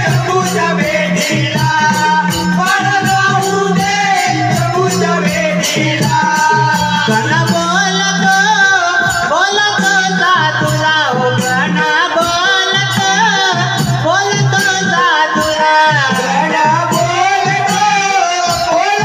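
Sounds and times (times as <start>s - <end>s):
person singing folk melody: 0.0s - 19.0s
rattling percussion: 0.0s - 19.0s.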